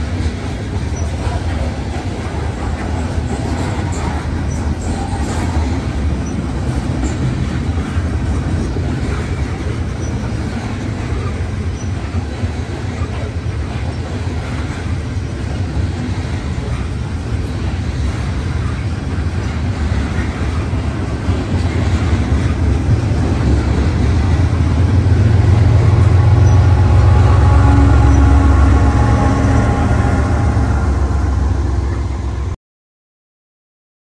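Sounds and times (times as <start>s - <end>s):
diesel locomotive engine running: 0.0s - 32.6s
train wheels rumbling on rails: 0.0s - 32.6s.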